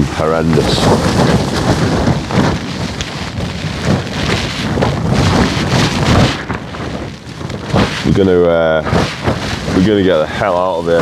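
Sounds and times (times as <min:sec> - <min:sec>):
tent fabric flapping: 0:00.0 - 0:11.0
wind buffeting microphone: 0:00.0 - 0:11.0.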